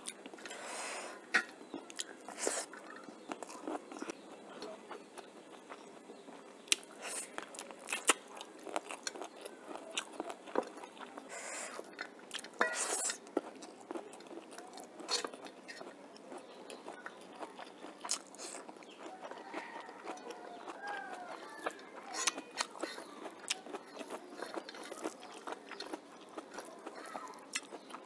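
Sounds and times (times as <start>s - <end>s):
person chewing and crunching food: 0.0s - 28.0s.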